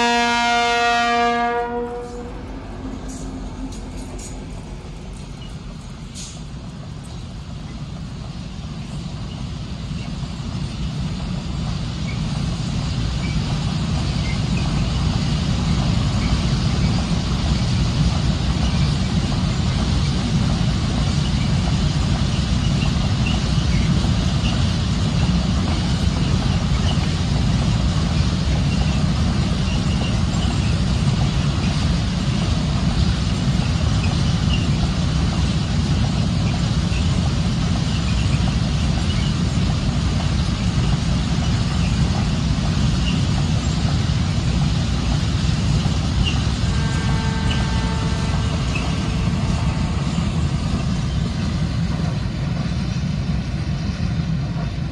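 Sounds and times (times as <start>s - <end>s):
freight train wheels rumbling on rails: 0.0s - 54.9s.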